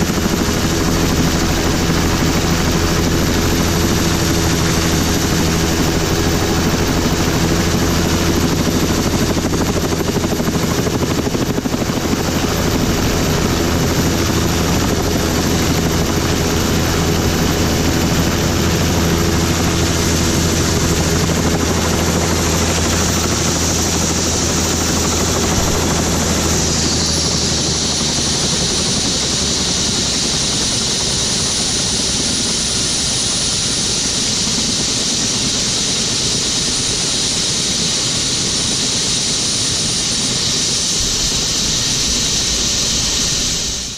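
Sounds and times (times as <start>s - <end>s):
helicopter rotor beat: 0.0s - 43.9s
turbine whine falling in pitch: 0.0s - 43.9s.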